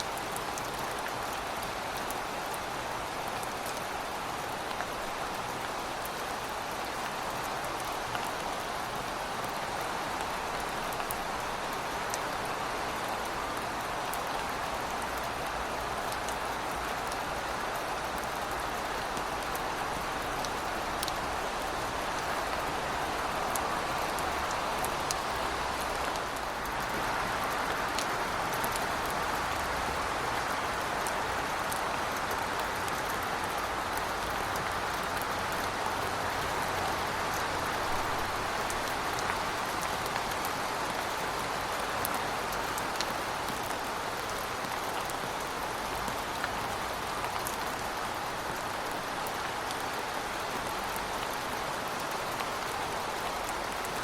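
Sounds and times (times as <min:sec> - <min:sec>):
heavy rain falling: 0:00.0 - 0:54.0
raindrops ticking on hard surfaces: 0:00.0 - 0:54.0.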